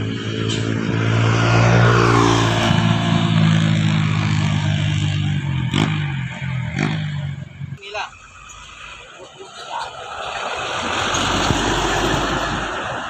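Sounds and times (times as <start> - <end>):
truck engine straining uphill: 0.0 - 13.0.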